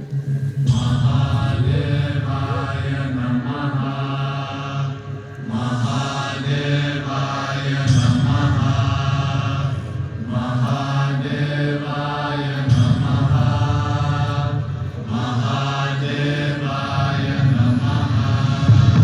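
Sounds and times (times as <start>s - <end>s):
steady low drone: 0.0s - 19.0s
voices chanting: 0.0s - 19.0s.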